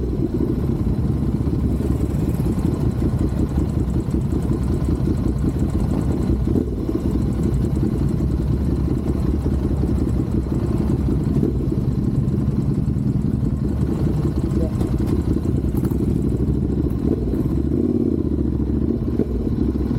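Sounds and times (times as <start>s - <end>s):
motorcycle engine rumbling: 0.0s - 19.9s.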